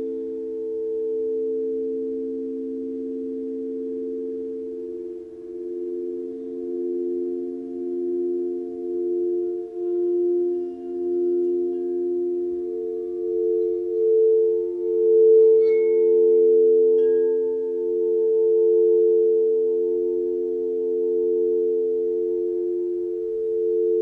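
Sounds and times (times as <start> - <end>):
faint chime pings: 0.0 - 24.0
sustained pure tone drone: 0.0 - 24.0.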